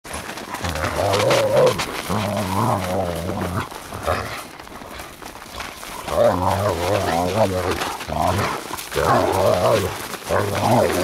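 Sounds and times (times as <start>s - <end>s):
dogs growling in play: 0.2s - 11.0s.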